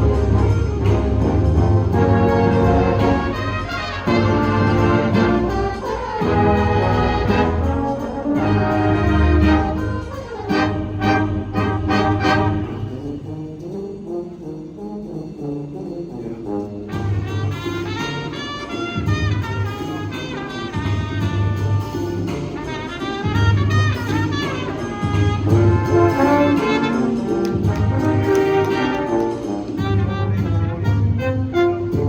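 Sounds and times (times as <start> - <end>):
percussion accents: 0.0 - 32.0
wind ensemble playing brass music: 0.0 - 32.0.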